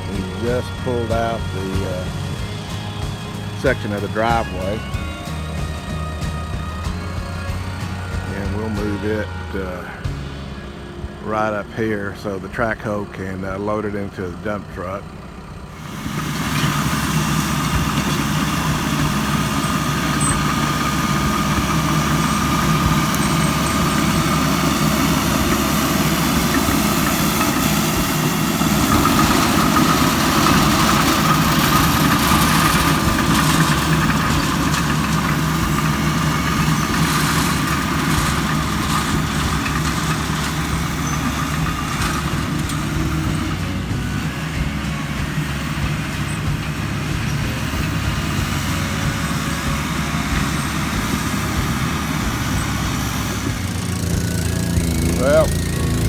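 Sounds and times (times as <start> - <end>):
heavy machinery engine drone: 0.0 - 56.0
high steady whine: 0.0 - 56.0.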